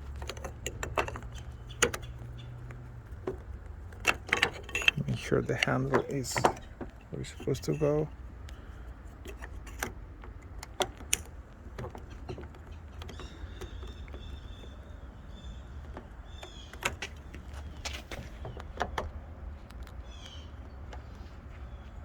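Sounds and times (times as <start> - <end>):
car door handle parts clicking: 0.0 - 20.0.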